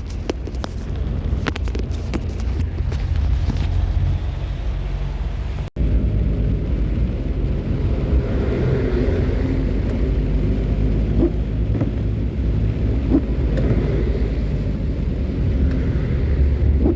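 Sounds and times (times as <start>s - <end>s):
road noise: 0.0s - 16.9s
vehicle engine rumble: 0.0s - 16.9s.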